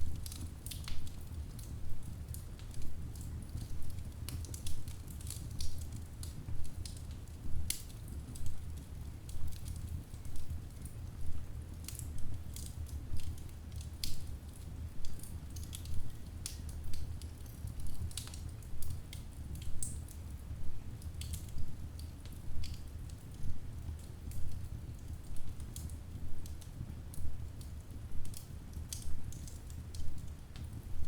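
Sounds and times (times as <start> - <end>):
fire pops and snaps: 0.1 - 10.9, 11.7 - 20.3, 21.0 - 30.9.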